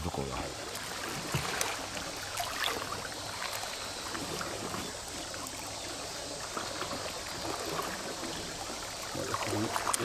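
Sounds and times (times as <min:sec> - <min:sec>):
small waves washing on rocks: 0:00.0 - 0:05.6, 0:06.2 - 0:10.0.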